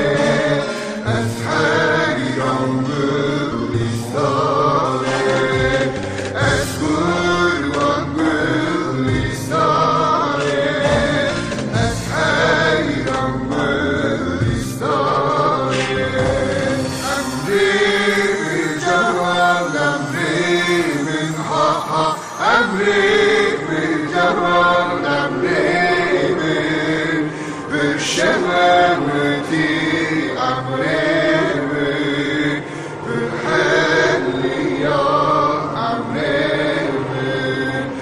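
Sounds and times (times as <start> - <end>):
voices singing a slow chant: 0.0 - 38.0.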